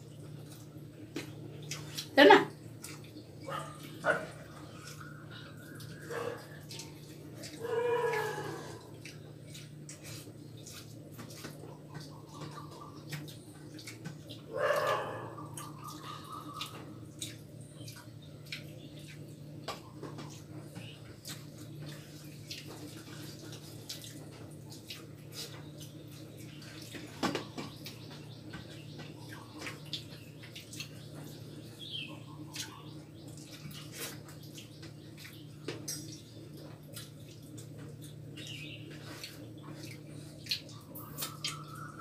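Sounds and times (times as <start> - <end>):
chewing: 0.0 - 42.0
steady low hum: 0.0 - 42.0.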